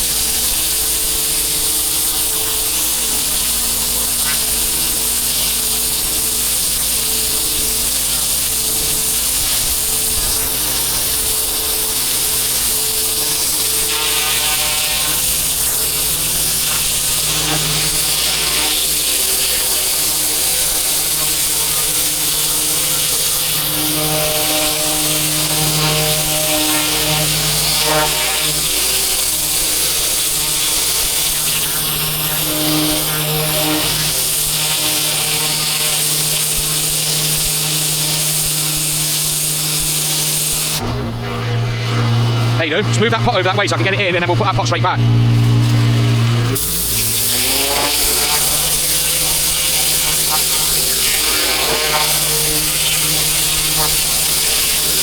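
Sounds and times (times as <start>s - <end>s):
water jet hissing on paving: 0.0s - 40.8s, 42.6s - 55.0s
pressure washer pump drone: 0.0s - 55.0s.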